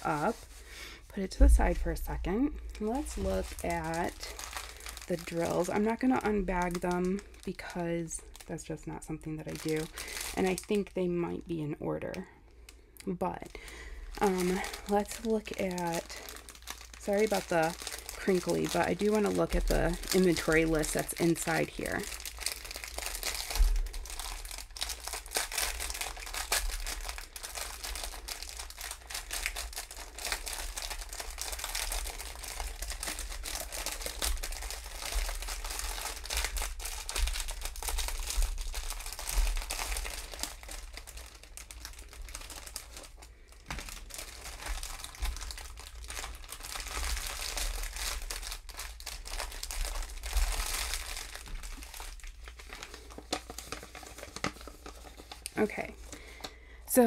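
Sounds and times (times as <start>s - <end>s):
plastic bag crinkling: 0.0s - 57.0s
small bags shifting: 2.6s - 7.7s, 9.5s - 10.8s, 13.6s - 56.6s.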